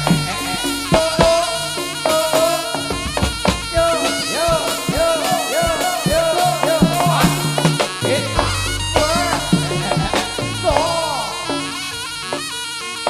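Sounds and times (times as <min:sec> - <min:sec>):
quick drumming: 0:00.0 - 0:11.8
shrill reed pipe: 0:00.0 - 0:13.0.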